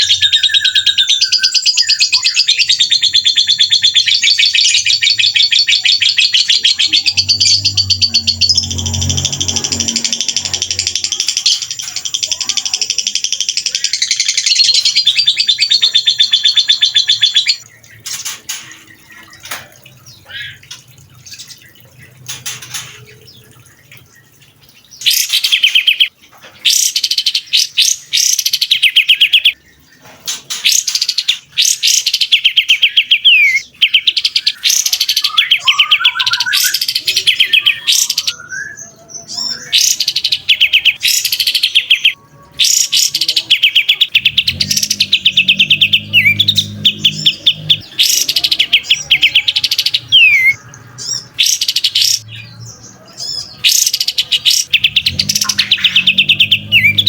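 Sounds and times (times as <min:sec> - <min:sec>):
songbird trilling: 0:00.0 - 0:23.7, 0:30.3 - 0:57.0
songbird chirps: 0:00.0 - 0:57.0.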